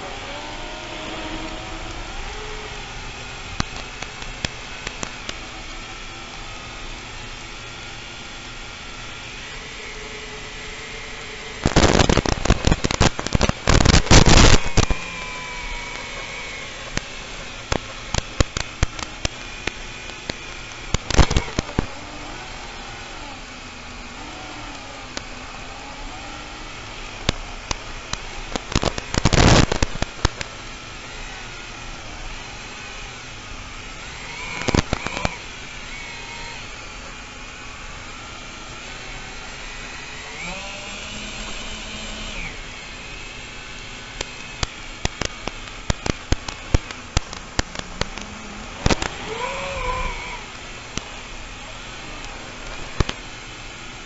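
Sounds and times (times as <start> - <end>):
dense crackling bursts: 0.0 - 40.6, 42.1 - 54.0
drone motors whining: 0.0 - 54.0.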